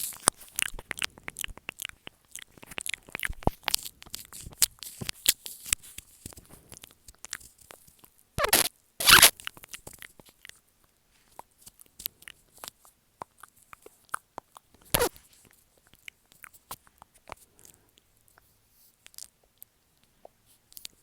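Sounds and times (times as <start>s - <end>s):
wet lip and tongue clicks: 0.0s - 10.6s, 11.3s - 21.0s.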